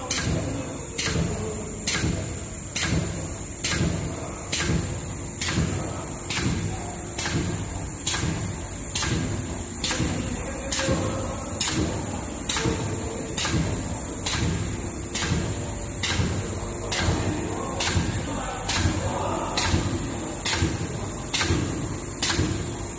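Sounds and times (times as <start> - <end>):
machine clacking: 0.0 - 22.9
machine high whine: 0.0 - 22.9.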